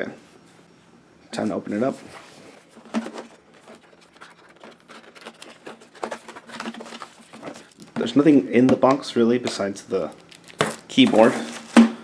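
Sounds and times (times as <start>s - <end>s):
box packaging rustling: 1.4s - 12.0s.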